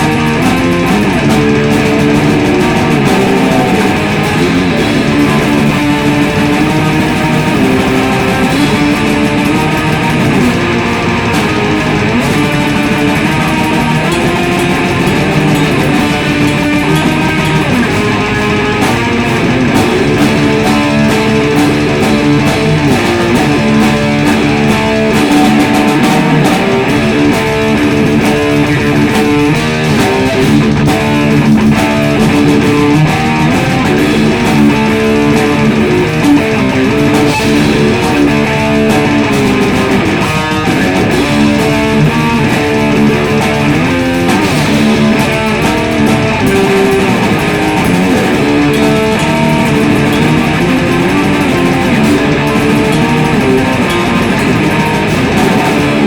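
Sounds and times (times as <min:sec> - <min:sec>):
distorted electric guitar: 0:00.0 - 0:56.0
drum kit playing: 0:00.0 - 0:56.0.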